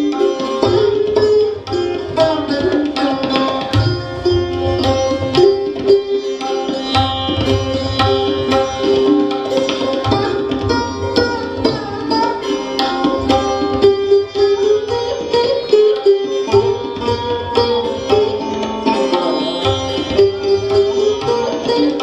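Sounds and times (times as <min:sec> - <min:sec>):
sitar and sarod plucked: 0:00.0 - 0:22.0
tabla drumming: 0:00.0 - 0:22.0.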